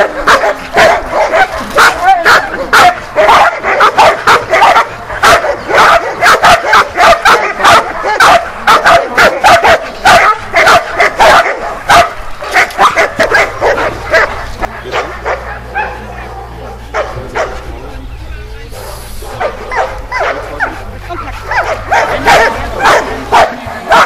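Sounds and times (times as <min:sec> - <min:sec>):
dog barking rapidly: 0:00.0 - 0:17.7, 0:18.8 - 0:24.0.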